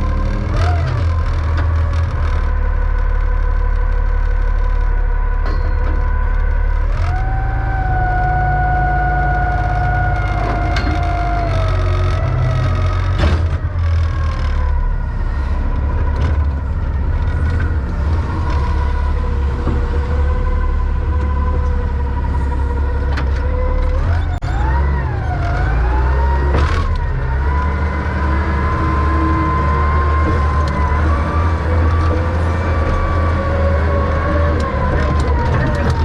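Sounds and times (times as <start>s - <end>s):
diesel engine under load: 0.0s - 36.0s
hydraulic whine: 0.0s - 36.0s.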